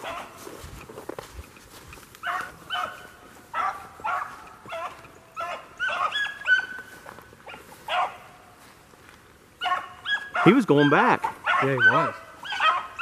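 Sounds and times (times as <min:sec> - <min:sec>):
hounds barking and baying: 0:00.0 - 0:00.9, 0:01.6 - 0:08.7, 0:09.6 - 0:13.0.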